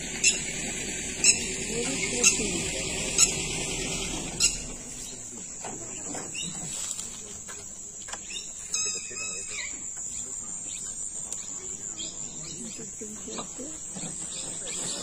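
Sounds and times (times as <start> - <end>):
high-pitched insect drone: 0.1 - 5.7, 8.4 - 15.0.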